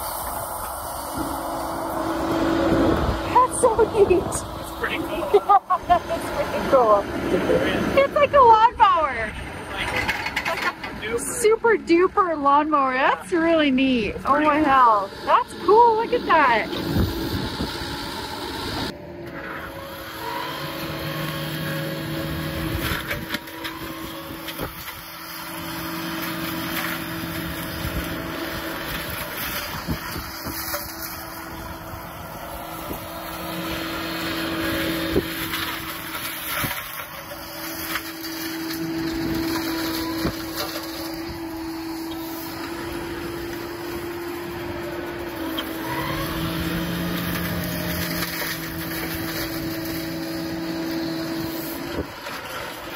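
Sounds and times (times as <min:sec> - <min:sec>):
flail mower mechanical whine: 0:00.0 - 0:52.9
low machine hum: 0:00.0 - 0:52.9.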